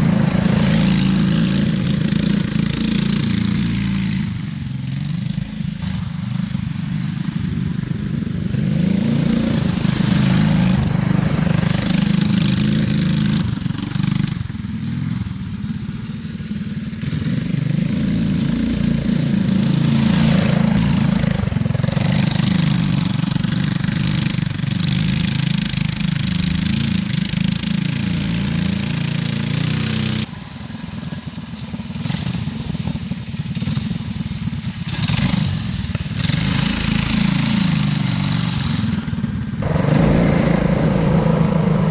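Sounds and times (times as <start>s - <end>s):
go-kart engines revving: 0.0s - 41.9s.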